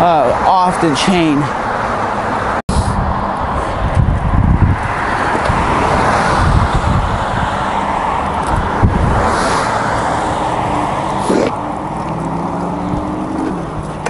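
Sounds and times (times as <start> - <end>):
road and wind noise: 0.0 - 14.0
vehicle engine hum: 0.0 - 14.0.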